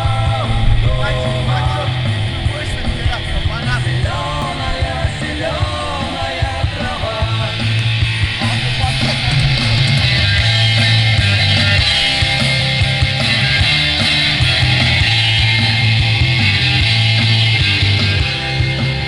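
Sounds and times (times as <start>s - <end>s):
rock music with yelled vocals: 0.0s - 19.0s.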